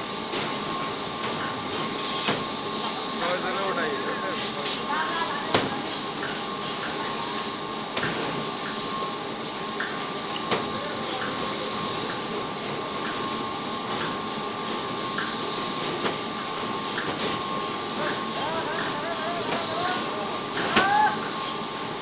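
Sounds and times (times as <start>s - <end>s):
extrusion machine rumbling and whining: 0.0s - 22.0s.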